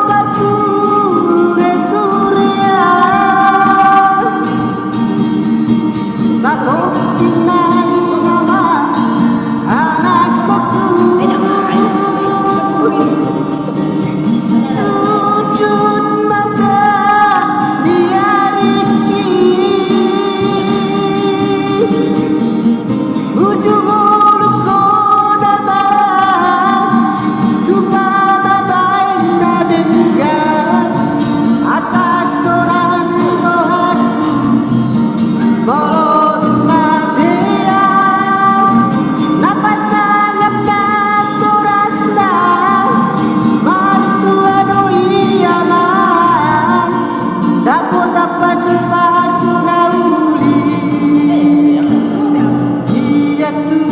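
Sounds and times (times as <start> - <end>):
person singing slow song: 0.0 - 53.9
plucked guitar: 0.0 - 53.9.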